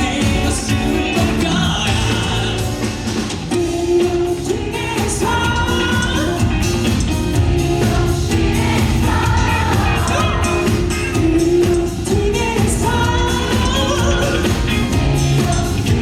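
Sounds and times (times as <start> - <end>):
pop-rock band with vocals: 0.0 - 16.0.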